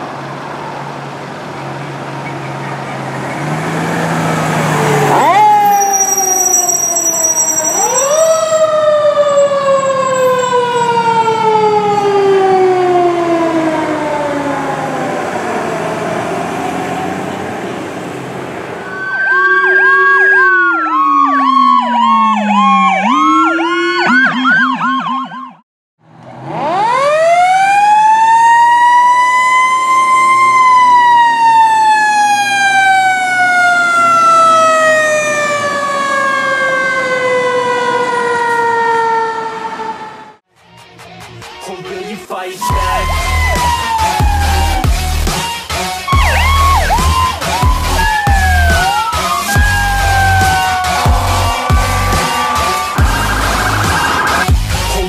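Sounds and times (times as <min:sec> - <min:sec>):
fire engine siren wail: 0:00.0 - 0:25.6, 0:26.3 - 0:40.4, 0:42.6 - 0:55.0
fast siren yelp: 0:03.1 - 0:17.5, 0:18.8 - 0:25.6, 0:26.5 - 0:40.4, 0:42.6 - 0:55.0
siren winding up and down: 0:04.1 - 0:15.1, 0:18.8 - 0:25.6, 0:26.5 - 0:40.4, 0:42.6 - 0:55.0.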